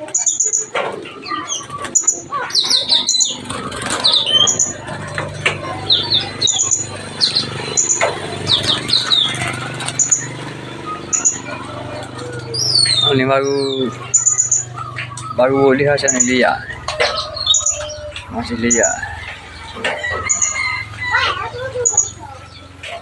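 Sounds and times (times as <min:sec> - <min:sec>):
small birds chirping: 0:00.0 - 0:23.0
wing fluttering: 0:00.0 - 0:23.0.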